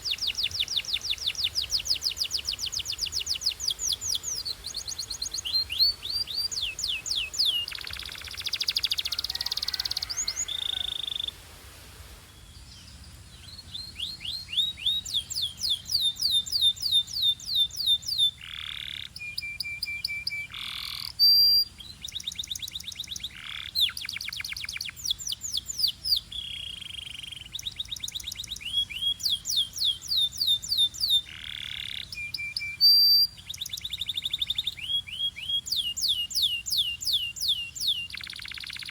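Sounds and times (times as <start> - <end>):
canary singing: 0.0 - 11.4, 13.4 - 38.9.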